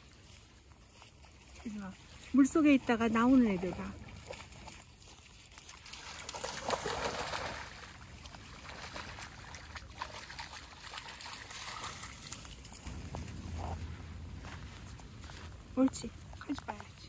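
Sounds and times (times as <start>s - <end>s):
water trickling and sloshing: 0.0s - 17.0s
dog splashing in water: 0.1s - 14.1s.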